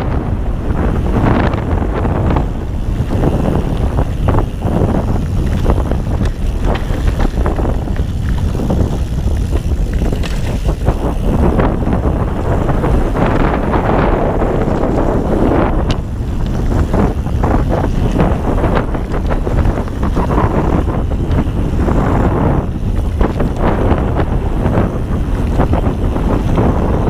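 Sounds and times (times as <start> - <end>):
bike rattling on bumps: 0.0 - 27.0
bike tyres rumbling on dirt: 0.0 - 27.0
wind buffeting microphone: 0.0 - 27.0.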